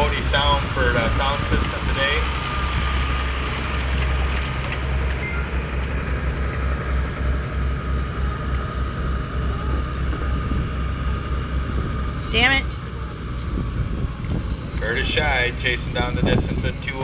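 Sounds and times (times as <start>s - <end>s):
tractor engine under load: 0.0s - 15.5s.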